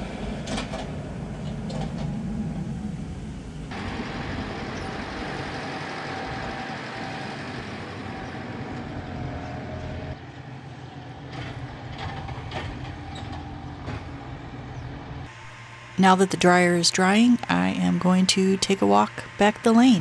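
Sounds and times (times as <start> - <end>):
faint machine whine: 0.0 - 20.0
farm machinery running: 3.7 - 20.0.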